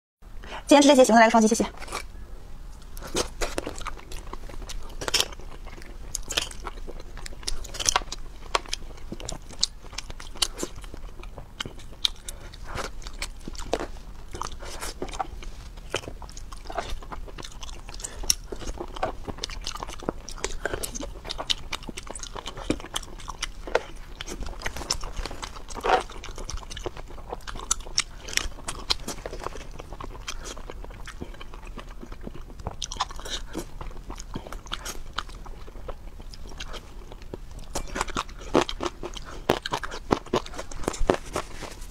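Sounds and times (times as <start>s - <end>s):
person chewing crunchy food: 1.7s - 2.2s, 2.8s - 41.9s.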